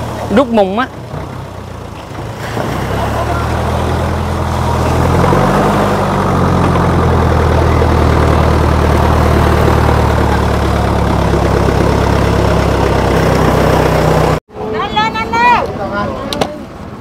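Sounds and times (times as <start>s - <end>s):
heavy engine idling: 0.0s - 14.4s.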